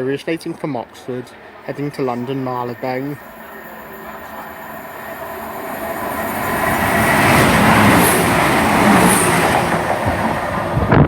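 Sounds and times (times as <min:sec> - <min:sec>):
diesel train passing at speed: 0:00.0 - 0:11.0.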